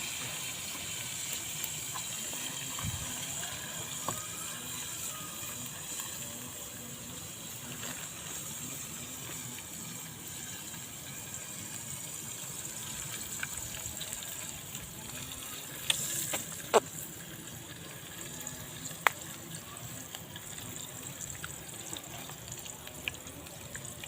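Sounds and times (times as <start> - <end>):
oil sizzling in a pan: 0.0 - 24.0.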